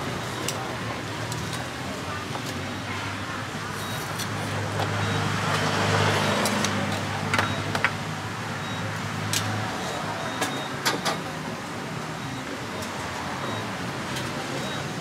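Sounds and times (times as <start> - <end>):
market background noise: 0.0 - 15.0.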